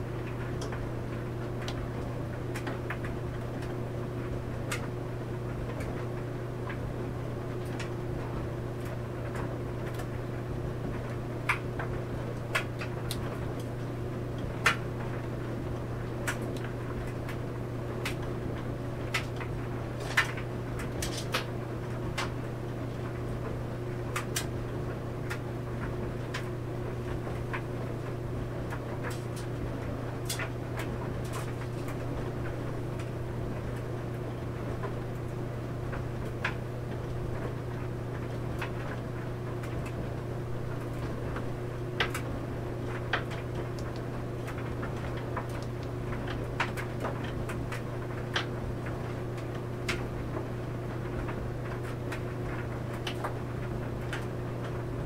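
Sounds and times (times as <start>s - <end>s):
clothes dryer humming: 0.0s - 55.0s.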